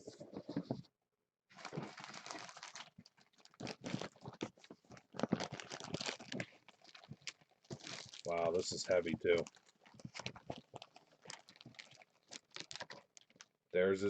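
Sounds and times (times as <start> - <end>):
plastic packaging crinkling and tearing: 1.5 - 13.6.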